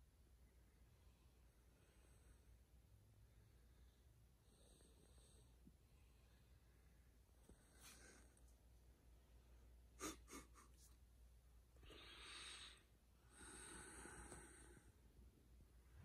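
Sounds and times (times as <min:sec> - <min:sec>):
soft breathing: 0:00.7 - 0:11.0, 0:11.6 - 0:16.0.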